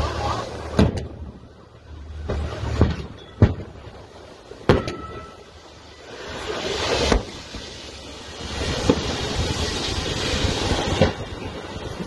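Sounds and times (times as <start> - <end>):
scuba tanks exploding: 0.0 - 12.0
wind and water hiss: 0.0 - 12.0.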